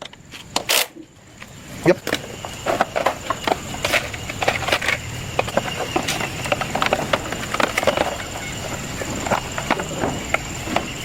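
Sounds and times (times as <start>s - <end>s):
steady high-pitched whine: 0.0s - 11.0s
hand tools clicking and knocking: 2.0s - 11.0s.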